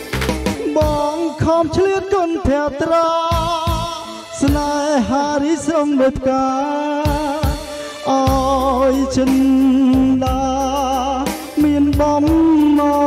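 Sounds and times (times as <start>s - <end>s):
backing track with drums and bass: 0.0s - 6.0s, 6.9s - 13.0s
man singing with vibrato: 0.0s - 13.0s.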